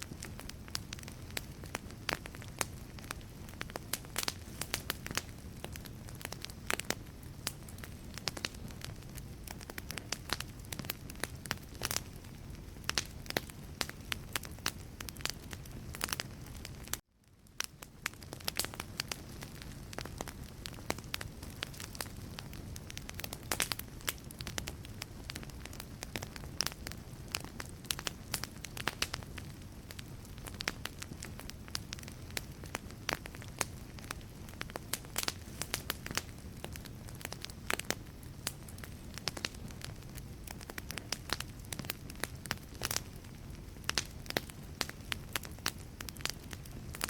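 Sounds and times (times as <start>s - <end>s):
logs crackling and popping: 0.0s - 47.0s
low rush of flame: 0.0s - 47.0s.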